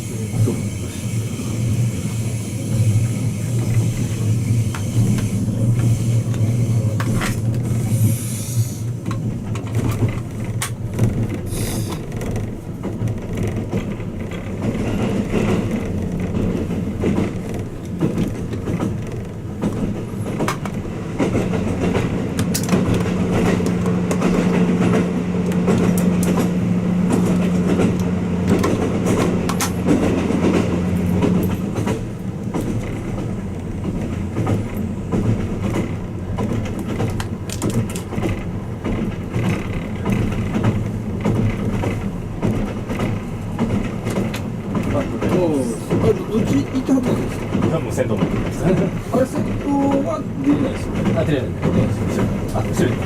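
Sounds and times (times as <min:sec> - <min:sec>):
train running drone: 0:00.0 - 0:53.0
wheels clicking over rail joints: 0:00.0 - 0:53.0.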